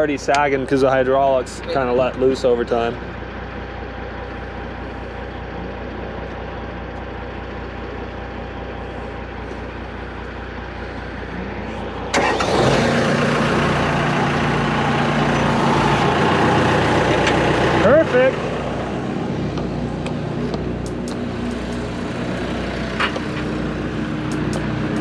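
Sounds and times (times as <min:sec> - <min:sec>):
paver engine running: 0:00.0 - 0:25.0.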